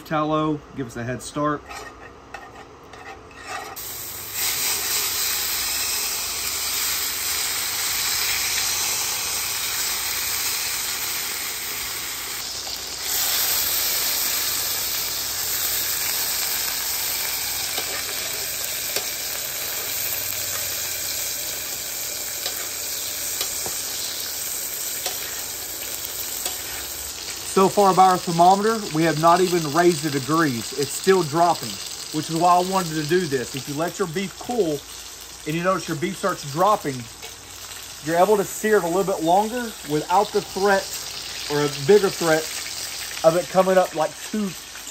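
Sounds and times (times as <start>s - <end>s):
fat sizzling in a pan: 3.0s - 44.9s.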